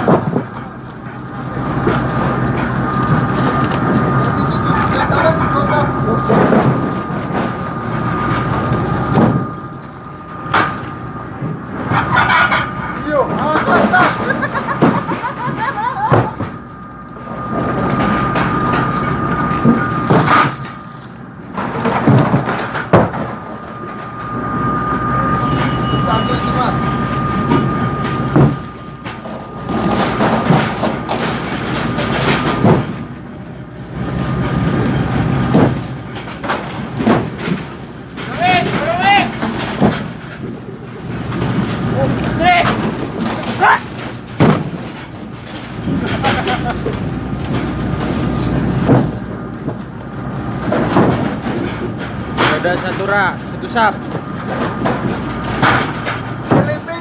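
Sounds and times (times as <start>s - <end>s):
boat machinery running: 0.0s - 57.0s.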